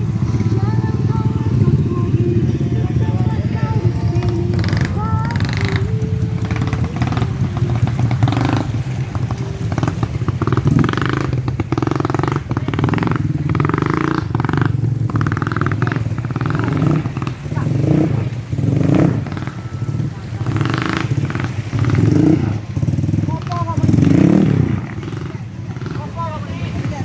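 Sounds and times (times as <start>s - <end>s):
bike clattering: 0.0s - 27.0s
motorcycle engine revving: 0.0s - 27.0s.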